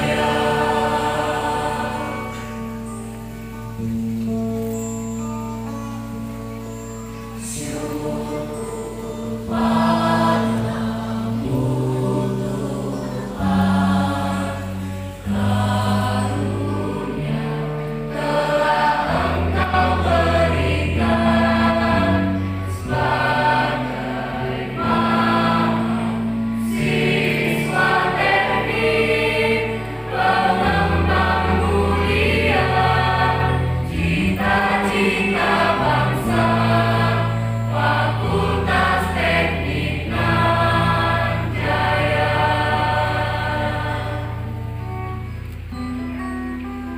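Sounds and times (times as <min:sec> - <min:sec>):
choir singing sustained chords: 0:00.0 - 0:46.9.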